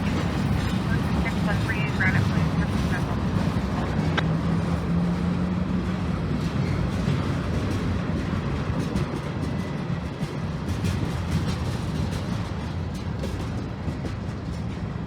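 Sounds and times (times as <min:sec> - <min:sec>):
diesel locomotives rumbling: 0:00.0 - 0:15.0.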